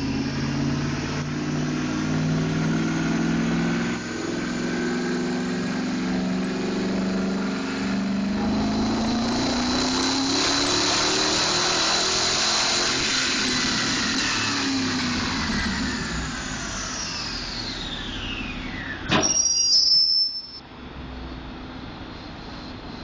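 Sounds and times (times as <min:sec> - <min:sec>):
engine whine falling in pitch: 0:00.0 - 0:23.0.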